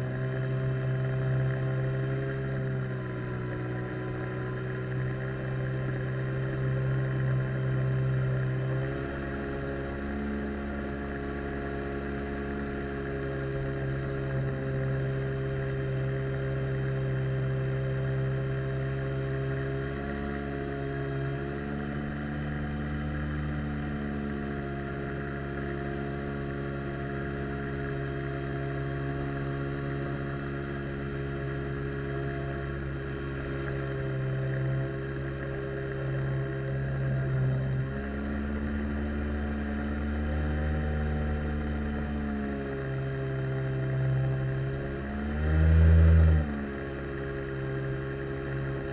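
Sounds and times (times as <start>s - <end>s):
outboard jet motor running: 0.0s - 48.9s.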